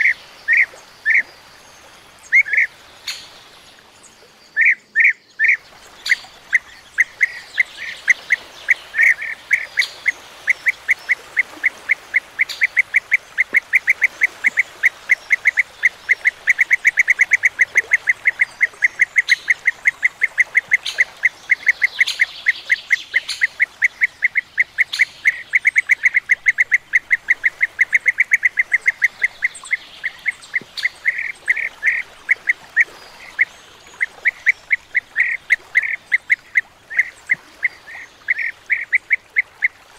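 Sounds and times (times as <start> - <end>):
birds repeating short calls: 0.0 - 1.3, 2.2 - 3.4, 4.6 - 39.8.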